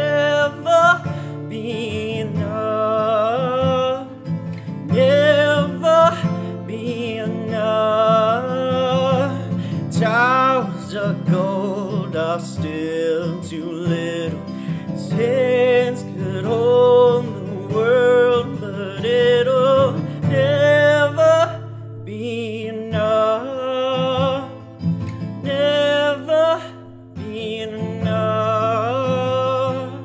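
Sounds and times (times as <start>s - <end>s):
person singing with vibrato: 0.0s - 30.0s.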